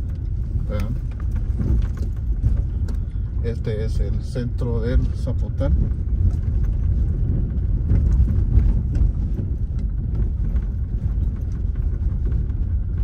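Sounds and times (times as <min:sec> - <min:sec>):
knocks and rattles: 0:00.0 - 0:13.0
vehicle driving low rumble: 0:00.0 - 0:13.0.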